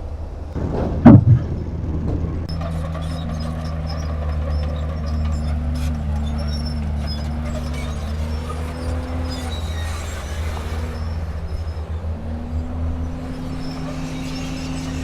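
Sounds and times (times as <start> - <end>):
bulldozer diesel engine: 0.1 - 15.0.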